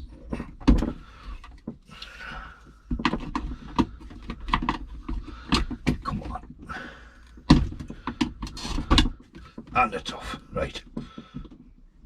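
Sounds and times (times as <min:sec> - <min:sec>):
plastic parts knocking and clicking: 0:00.0 - 0:09.9, 0:10.6 - 0:11.8.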